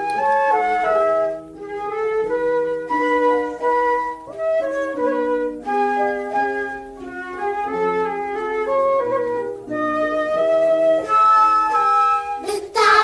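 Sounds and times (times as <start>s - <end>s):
instrumental children's song melody: 0.0s - 13.0s.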